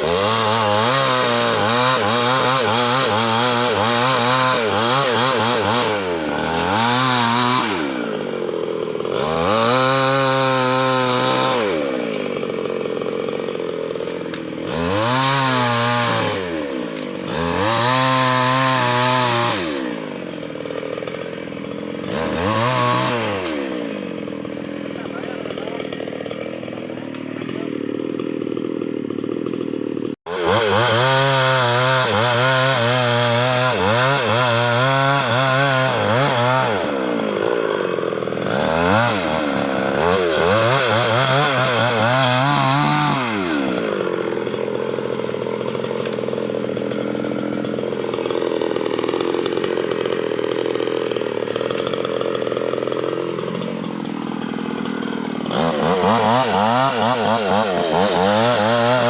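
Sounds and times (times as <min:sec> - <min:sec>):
chainsaw running hard: 0:00.0 - 0:59.0.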